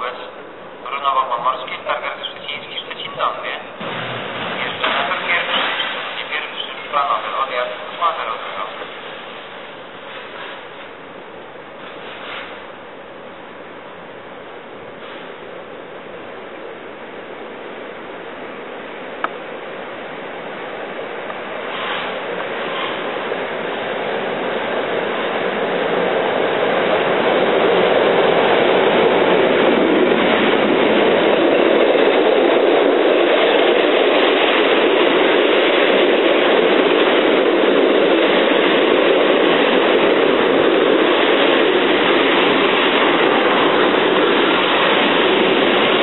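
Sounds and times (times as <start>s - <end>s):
electric locomotive passing: 0.0s - 46.0s
train wheels on rails: 1.2s - 12.9s, 15.0s - 15.6s, 20.4s - 46.0s.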